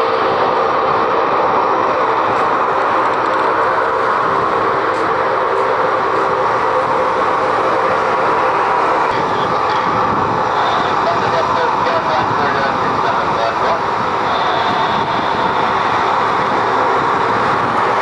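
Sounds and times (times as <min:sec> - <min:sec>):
aircraft engines rushing: 0:00.0 - 0:18.0.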